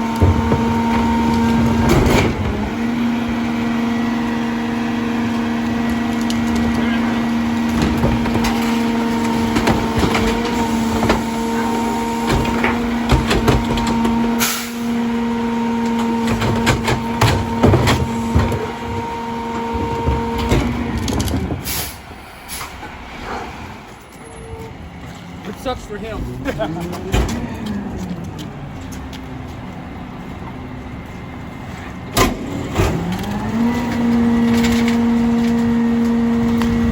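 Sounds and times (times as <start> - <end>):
hydraulic whine: 0.0 - 28.9, 31.0 - 36.9
diesel engine: 0.0 - 36.9
trash carts clattering and banging: 0.0 - 36.9.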